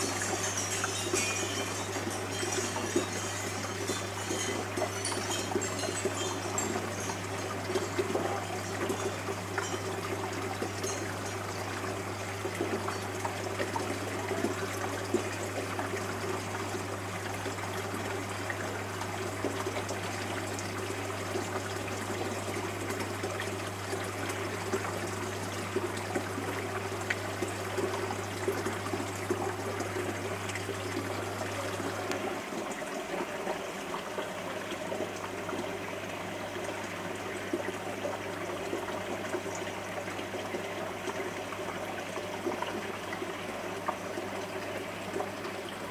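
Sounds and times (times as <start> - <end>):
aquarium water trickling: 0.0 - 45.9
low steady hum: 0.0 - 45.9.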